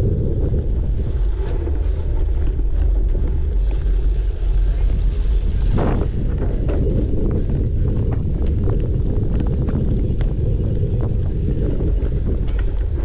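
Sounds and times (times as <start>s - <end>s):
wind buffeting microphone: 0.0s - 13.0s
bike clicks and rattles: 0.5s - 13.0s.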